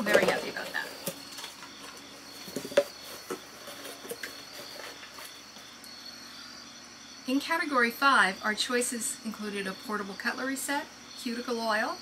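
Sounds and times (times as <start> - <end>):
faint high-pitched hum: 0.0 - 12.0.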